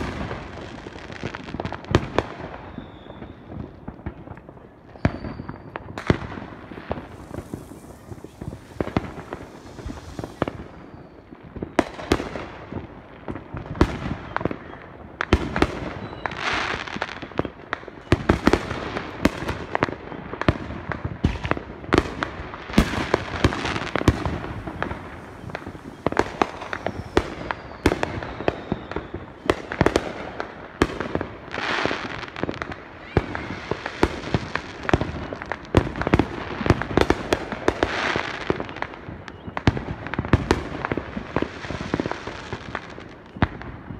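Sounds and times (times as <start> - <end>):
fireworks bangs and pops: 0.0 - 43.9
fireworks crackling: 0.0 - 43.9.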